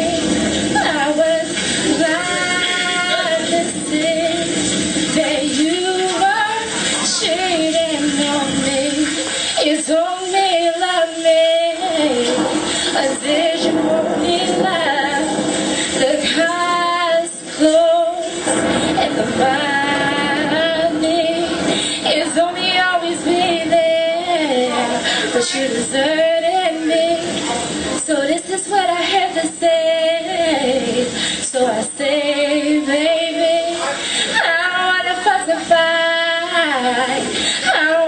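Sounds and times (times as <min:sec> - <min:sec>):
backing music: 0:00.0 - 0:37.4
woman singing into microphone: 0:00.0 - 0:38.0.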